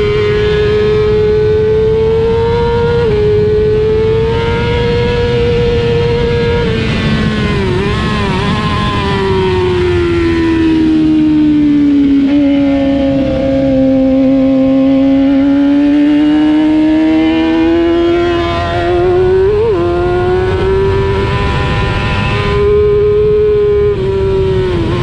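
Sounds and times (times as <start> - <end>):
race motorcycle engine: 0.0 - 25.0.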